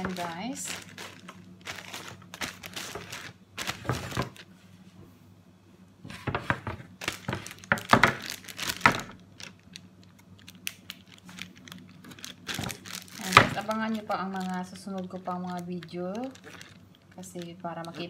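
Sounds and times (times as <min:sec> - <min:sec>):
plastic bags crinkling: 0:00.0 - 0:04.5, 0:06.9 - 0:18.0.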